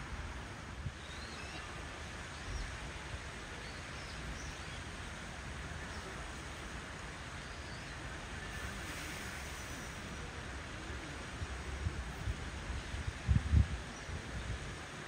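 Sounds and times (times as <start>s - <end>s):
background hiss and rumble: 0.0s - 15.0s.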